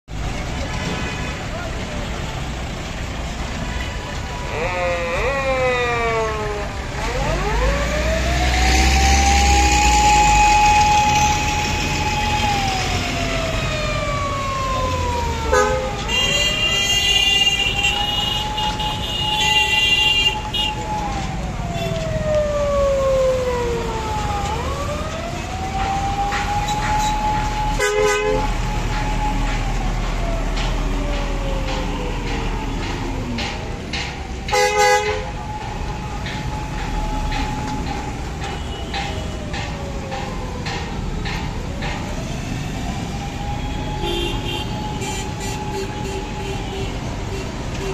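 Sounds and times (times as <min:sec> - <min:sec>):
heavy truck traffic rumble: 0:00.0 - 0:47.9
siren wailing: 0:04.3 - 0:47.8.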